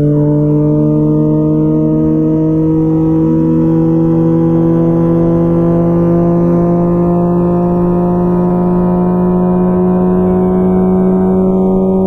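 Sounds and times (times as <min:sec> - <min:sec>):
motorcycle engine at highway speed: 0:00.0 - 0:12.0.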